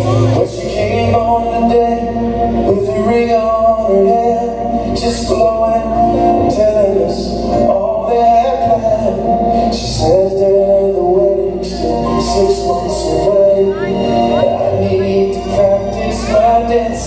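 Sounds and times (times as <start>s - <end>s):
man singing song over sound system: 0.0s - 17.0s.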